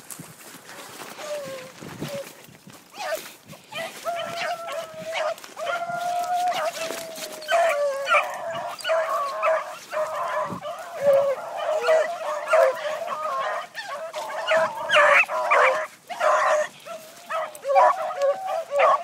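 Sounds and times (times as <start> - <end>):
hounds baying and yelping: 1.0 - 19.0.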